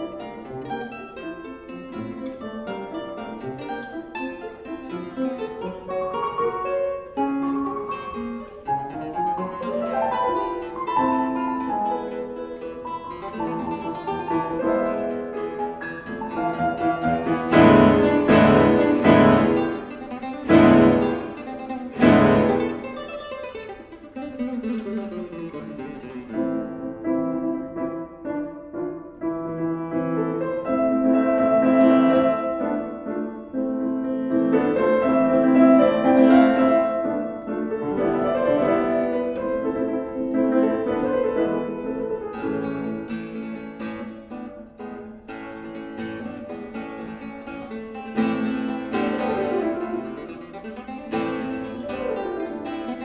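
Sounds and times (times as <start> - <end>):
classical guitar: 0.0 - 53.0
piano: 0.0 - 53.0.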